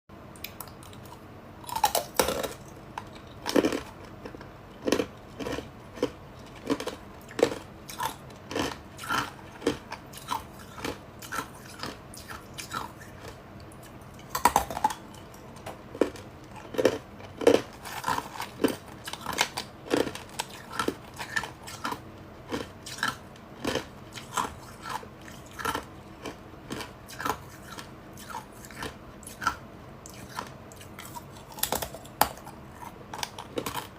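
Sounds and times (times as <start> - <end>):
ice being chewed: 0.4 - 33.9.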